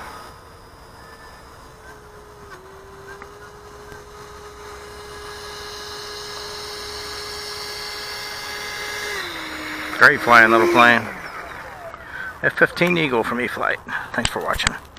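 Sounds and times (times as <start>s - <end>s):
electric ducted fans whining: 0.0s - 14.7s.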